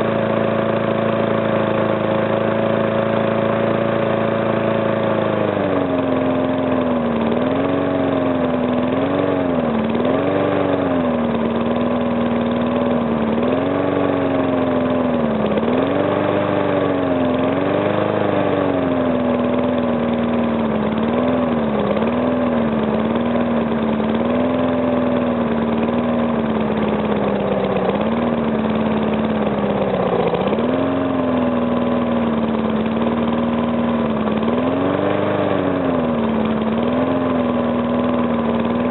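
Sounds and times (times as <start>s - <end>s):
small engine running unevenly: 0.0s - 38.9s.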